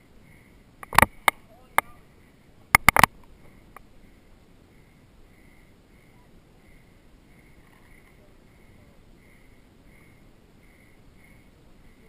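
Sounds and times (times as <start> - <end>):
low rumble of wind: 0.0 - 12.0.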